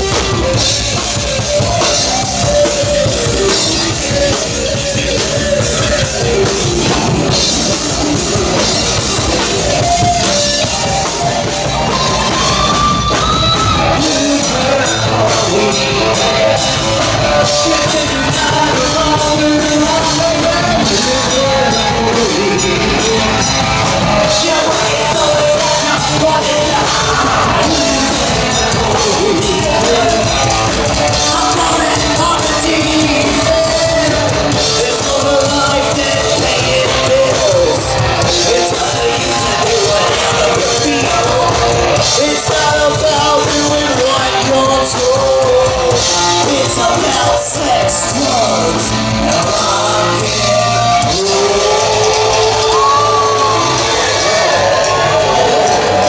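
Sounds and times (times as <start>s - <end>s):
drum kit: 0.0s - 56.0s
guitar: 0.0s - 56.0s
person shouting singing: 0.0s - 56.0s
rock band playing: 0.0s - 56.0s.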